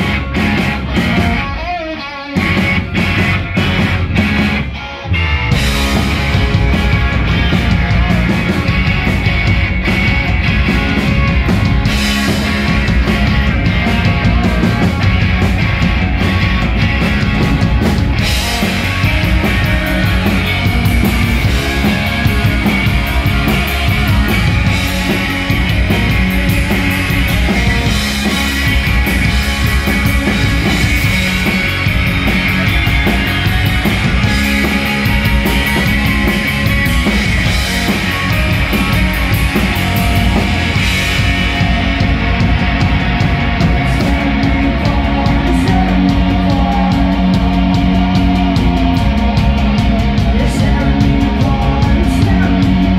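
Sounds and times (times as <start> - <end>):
bass guitar: 0.0 - 52.9
drum kit: 0.0 - 52.9
electric guitar: 0.0 - 52.9.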